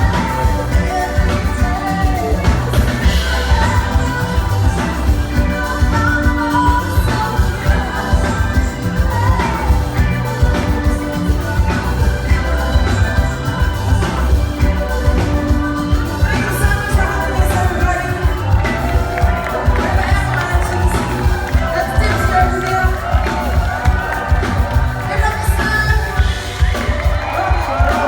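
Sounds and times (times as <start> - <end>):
live band playing pop song: 0.0 - 28.0
person singing: 0.0 - 28.0.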